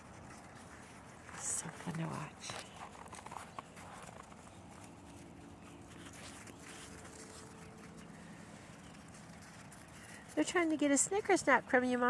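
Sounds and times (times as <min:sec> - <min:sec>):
footsteps crunching in snow: 0:00.0 - 0:10.9
low steady hum: 0:00.0 - 0:12.0.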